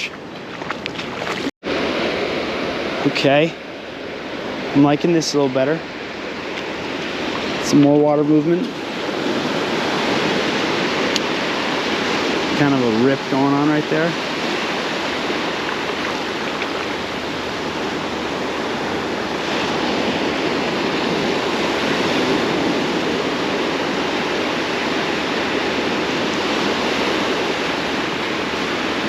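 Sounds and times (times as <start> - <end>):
ocean surf breaking: 0.0 - 29.0.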